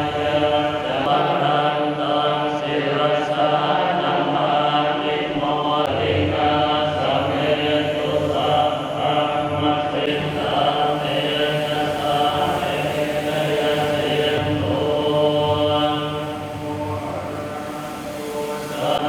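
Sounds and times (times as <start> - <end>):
monks chanting in monotone: 0.0 - 19.0.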